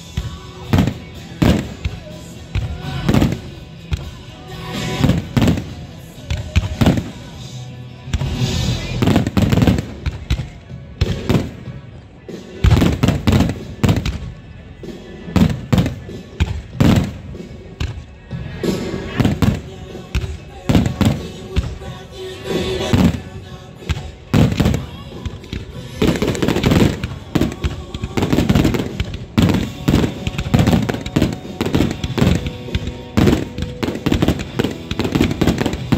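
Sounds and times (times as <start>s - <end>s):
firework crackle: 0.0s - 11.7s, 12.4s - 35.9s.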